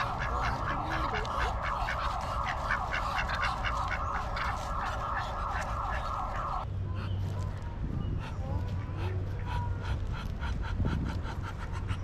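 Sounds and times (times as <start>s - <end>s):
ducks calling rapidly: 0.0s - 7.2s, 8.1s - 12.0s.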